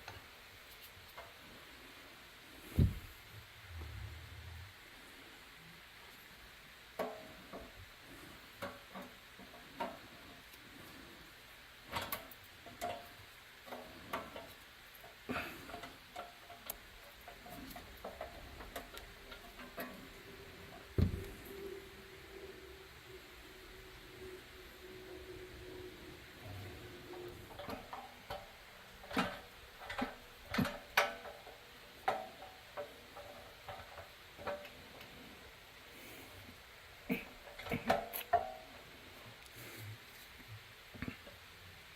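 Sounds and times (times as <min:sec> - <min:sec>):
faint hiss: 0:00.0 - 0:41.9.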